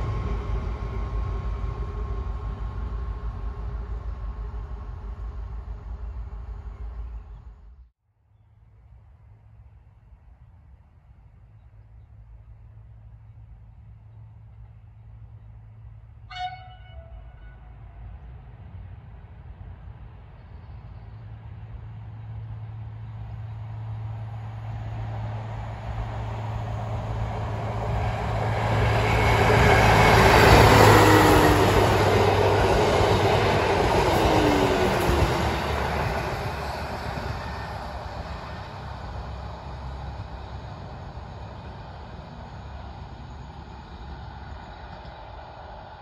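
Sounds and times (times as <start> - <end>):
diesel railcar passing: 0.0 - 7.9, 8.5 - 46.0.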